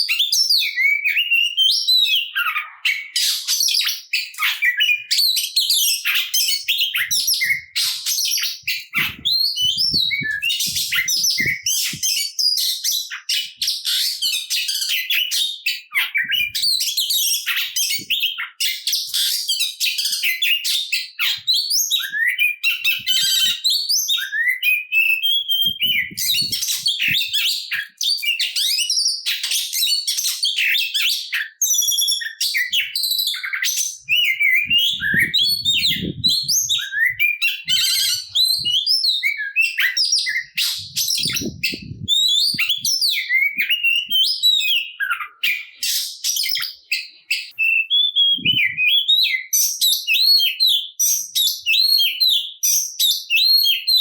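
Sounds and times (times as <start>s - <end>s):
bird singing varied whistles: 0.0s - 54.0s.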